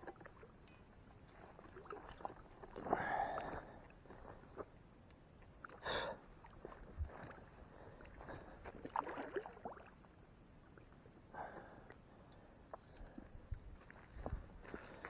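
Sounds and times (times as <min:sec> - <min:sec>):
faint water splashes: 0:00.0 - 0:15.0.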